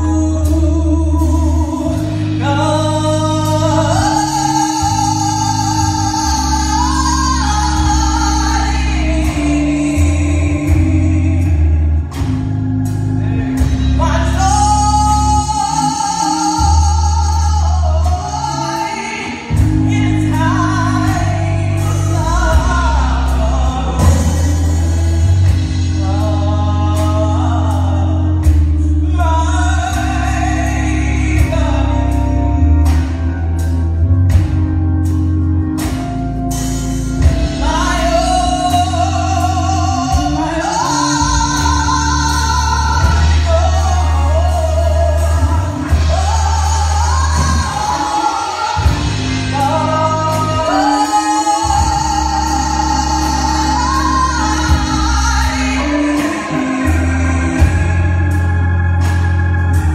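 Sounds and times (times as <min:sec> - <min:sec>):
organ chords: 0:00.0 - 0:59.9
woman singing lead: 0:00.0 - 0:59.9.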